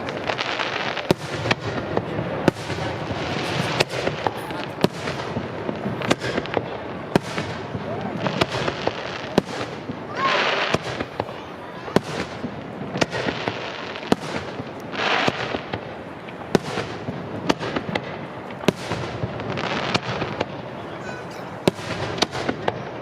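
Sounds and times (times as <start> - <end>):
fireworks bangs: 0.0 - 23.0
fireworks hissing: 0.0 - 23.0.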